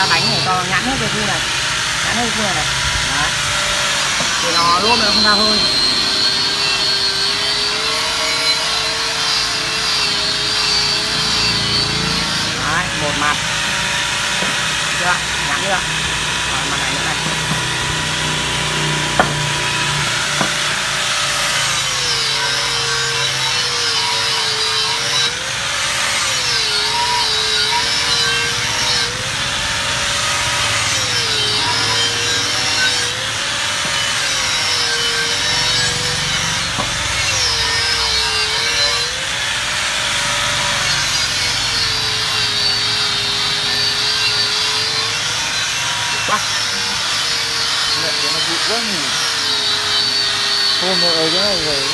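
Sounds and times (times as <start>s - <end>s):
angle grinder grinding metal: 0.0s - 51.9s.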